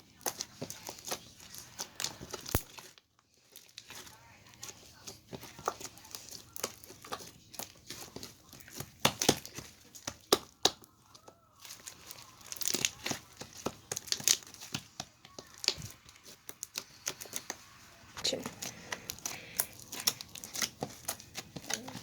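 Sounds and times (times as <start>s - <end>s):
slime squeezed popping and crackling: 0.0s - 17.6s, 18.2s - 22.0s.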